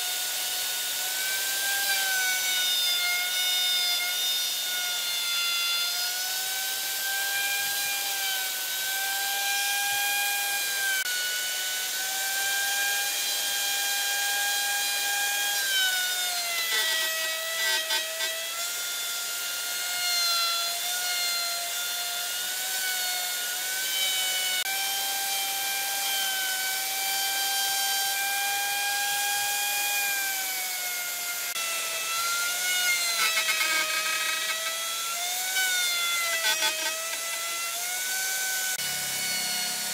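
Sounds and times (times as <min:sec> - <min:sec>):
router whining cutting wood: 0:00.0 - 0:39.9.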